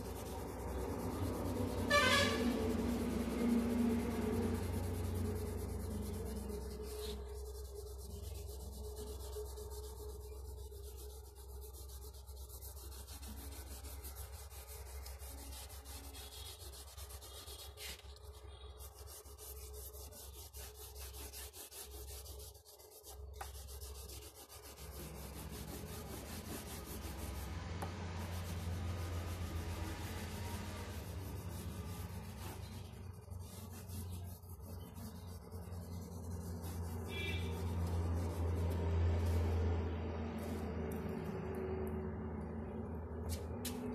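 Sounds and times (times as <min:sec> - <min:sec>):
crayon scribbling on paper: 0:00.0 - 0:39.5
low steady hum: 0:00.0 - 0:43.9.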